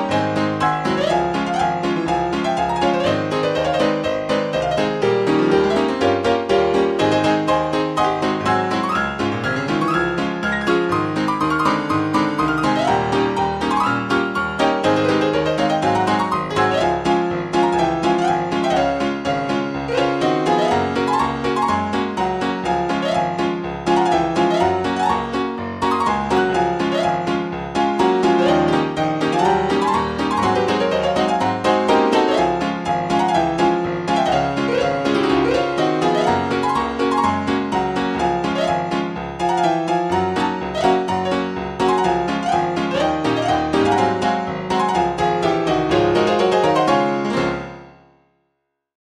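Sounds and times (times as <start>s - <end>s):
solo piano music: 0.0s - 48.5s.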